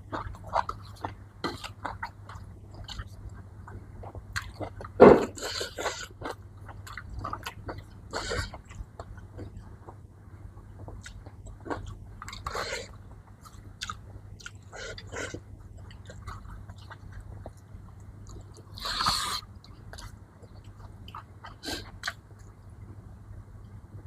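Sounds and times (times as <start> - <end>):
person chewing food: 0.0 - 10.0, 10.6 - 22.6.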